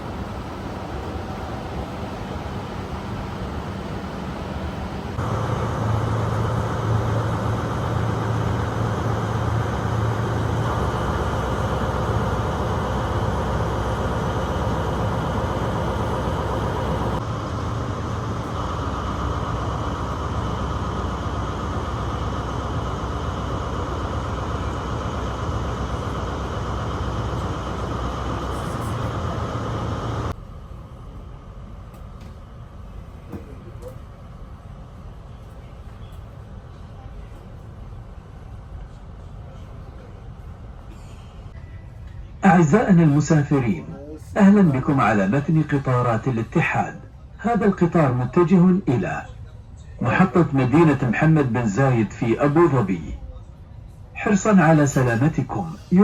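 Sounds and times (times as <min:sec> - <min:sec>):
passenger train rumbling: 0:00.0 - 0:56.0.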